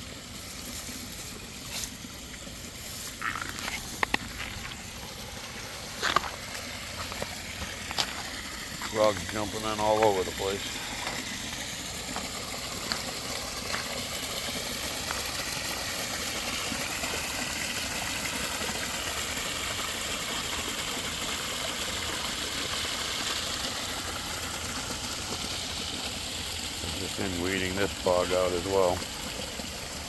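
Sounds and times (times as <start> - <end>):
water splashing in a pond: 0.0 - 30.0.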